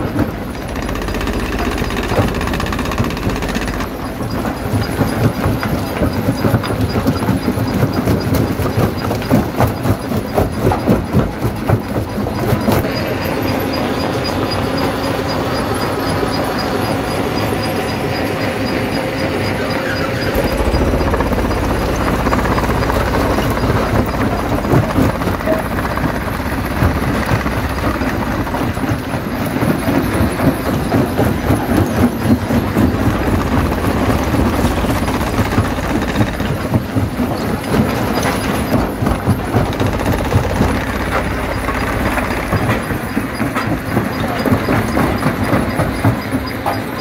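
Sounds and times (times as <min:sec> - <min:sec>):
jaw crusher rumbling: 0:00.0 - 0:47.0.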